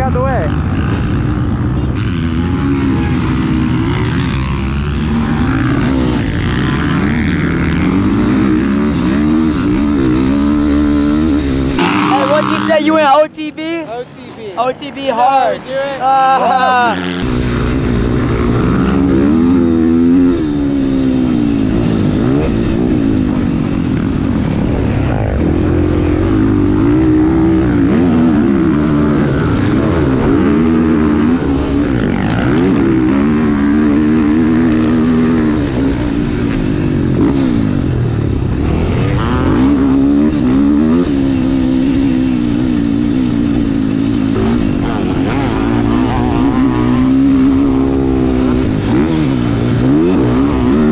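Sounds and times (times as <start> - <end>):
dirt bike engines revving: 0.0 - 50.9.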